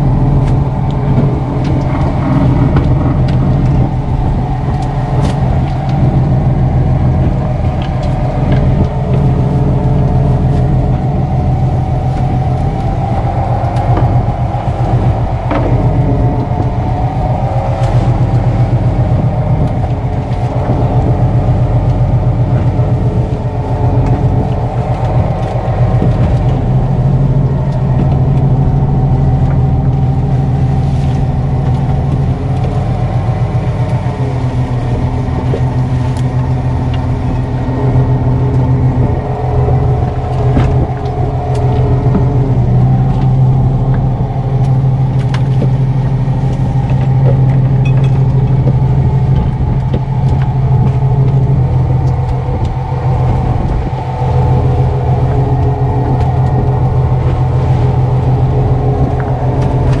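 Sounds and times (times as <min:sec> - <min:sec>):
boat engine humming: 0:00.0 - 1:00.0.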